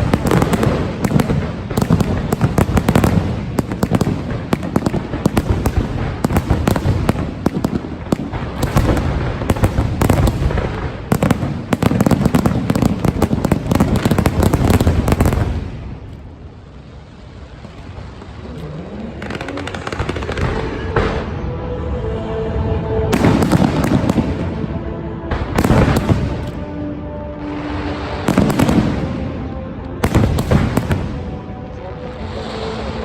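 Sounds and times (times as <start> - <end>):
fireworks bangs and crackles: 0.0 - 21.6, 23.1 - 33.0
fireworks rumble: 0.0 - 33.0.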